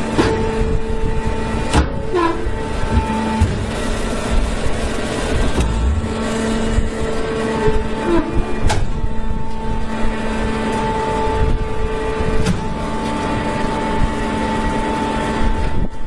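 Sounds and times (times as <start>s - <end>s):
baler machine hum and whine: 0.0s - 16.0s.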